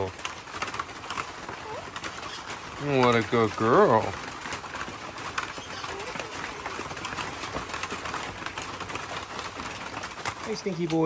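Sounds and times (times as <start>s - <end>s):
steady rain pattering: 0.0s - 11.0s.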